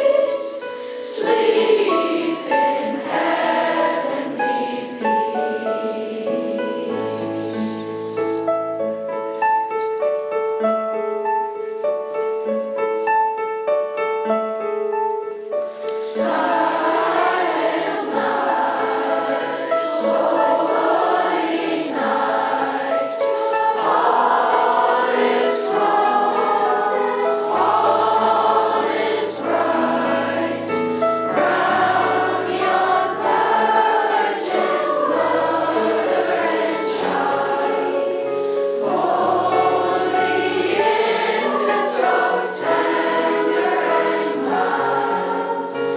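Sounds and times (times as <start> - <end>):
choir singing: 0.0 - 8.8, 16.0 - 45.9
piano playing: 0.0 - 45.9.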